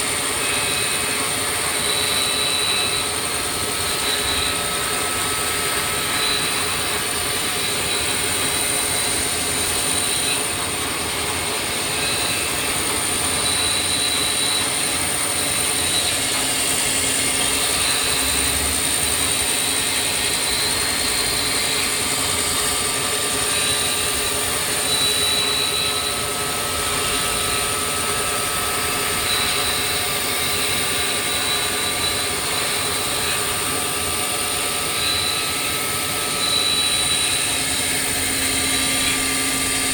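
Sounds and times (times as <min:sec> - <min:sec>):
machine running with whines: 0:00.0 - 0:39.9.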